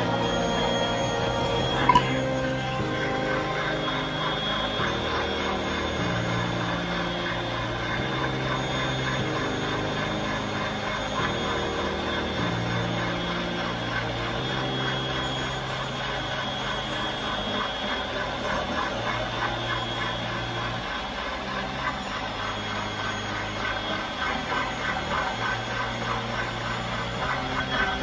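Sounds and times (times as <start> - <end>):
stand mixer whirring: 0.0 - 28.0.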